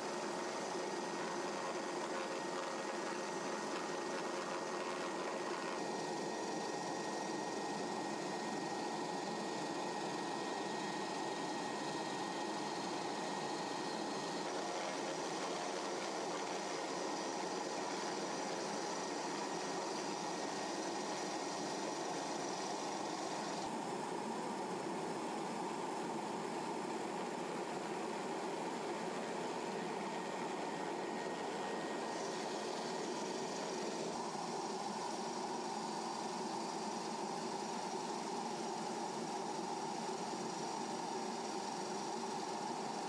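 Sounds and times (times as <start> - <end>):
faint high whine: 0.0 - 43.0.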